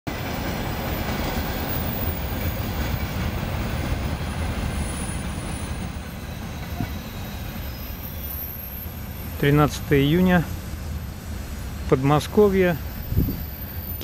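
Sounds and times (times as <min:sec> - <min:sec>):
freight train wheels rumbling: 0:00.1 - 0:14.0.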